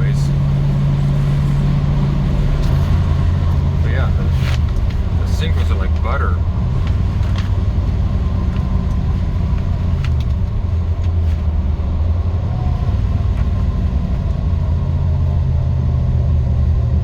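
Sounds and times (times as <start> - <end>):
car interior engine and road drone: 0.0 - 17.0.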